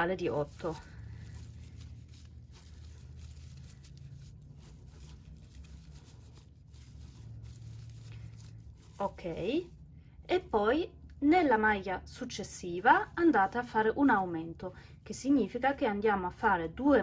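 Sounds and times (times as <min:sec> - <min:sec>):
yarn rustling and scratching: 0:00.0 - 0:16.3
steady low hum: 0:00.0 - 0:16.7.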